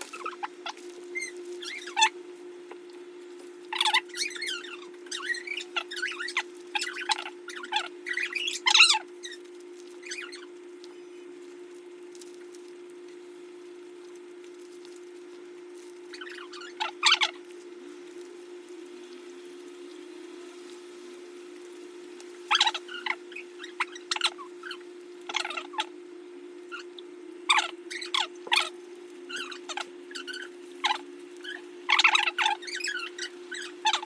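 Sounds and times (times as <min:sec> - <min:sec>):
low hum: 0:00.0 - 0:34.0
sandwich crackling and crunching: 0:00.0 - 0:34.0.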